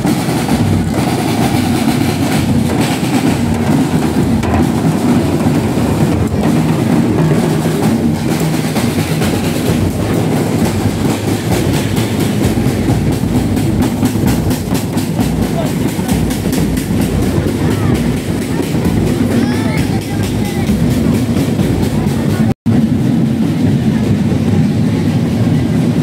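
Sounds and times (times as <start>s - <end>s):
marching snare and bass drums: 0.0s - 26.0s.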